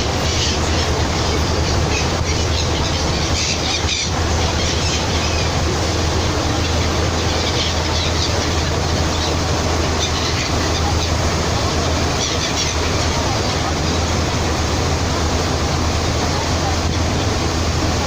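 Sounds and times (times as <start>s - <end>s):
seagulls crying: 0.0s - 18.0s.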